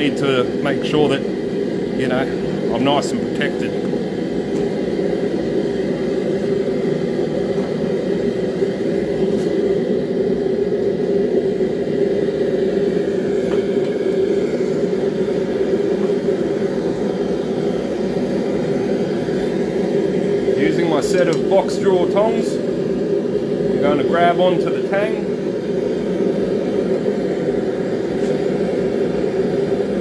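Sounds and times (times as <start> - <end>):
gas forge burner rushing: 0.0 - 30.0.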